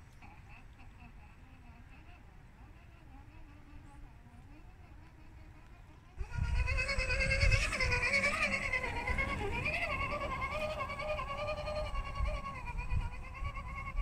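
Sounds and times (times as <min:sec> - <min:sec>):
toy car electric motor whining: 0:01.0 - 0:14.0.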